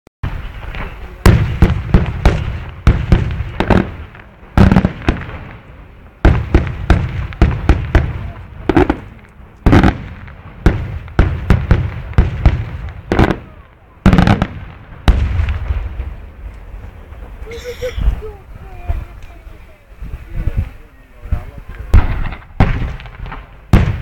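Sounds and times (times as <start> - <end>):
fireworks bangs with echo: 0.2 - 17.4, 18.0 - 24.0.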